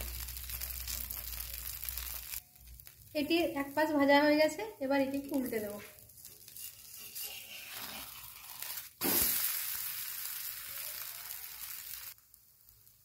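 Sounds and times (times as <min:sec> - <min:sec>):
metal spatula flipping food: 0:00.0 - 0:04.0, 0:04.8 - 0:13.0
food frying in oil: 0:00.0 - 0:13.0.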